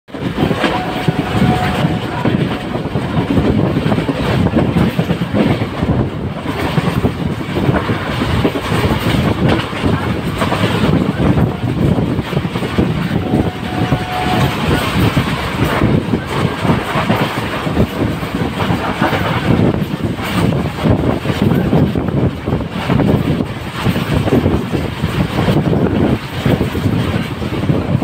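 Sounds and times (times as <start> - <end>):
clickety-clack of rail joints: 0.1 - 28.0
train wheels rumbling on rails: 0.1 - 28.0.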